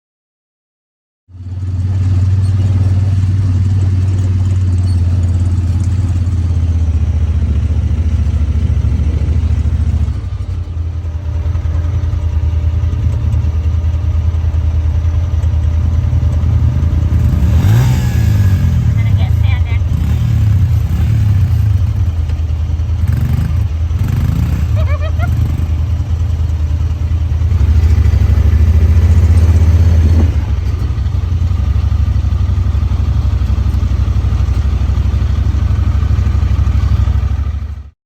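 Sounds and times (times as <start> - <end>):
vehicle engine humming and revving: 1.3 - 38.0.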